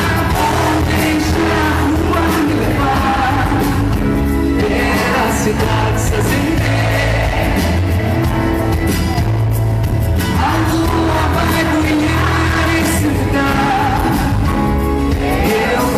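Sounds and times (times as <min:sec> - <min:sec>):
person singing: 0:00.0 - 0:08.0, 0:10.3 - 0:15.9
live band playing pop song: 0:00.0 - 0:15.9.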